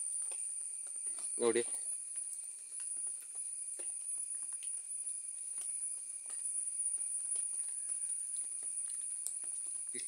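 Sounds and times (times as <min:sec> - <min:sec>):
faint irregular clicks: 0:00.0 - 0:10.0
insects droning: 0:00.0 - 0:10.0.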